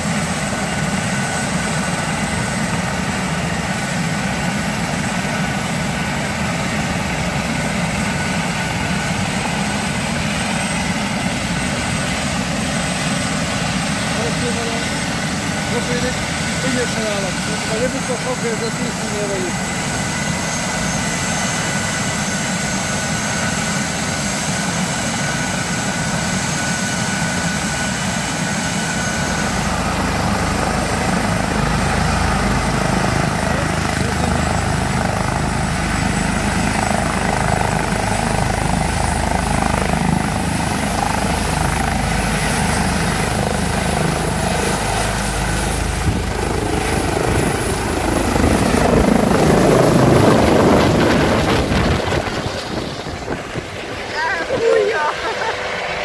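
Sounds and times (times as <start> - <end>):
helicopter rotor turning: 0.0 - 56.0
helicopter turbine engines whining: 0.0 - 56.0.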